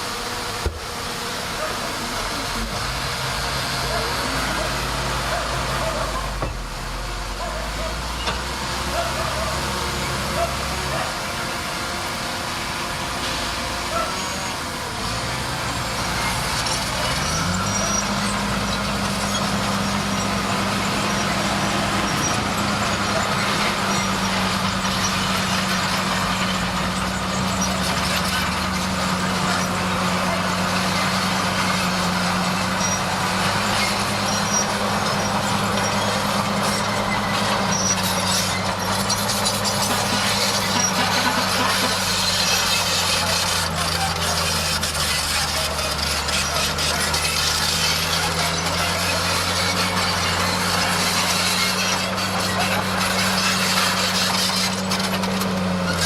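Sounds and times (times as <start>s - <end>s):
bulldozer diesel engine revving: 0.0s - 56.0s.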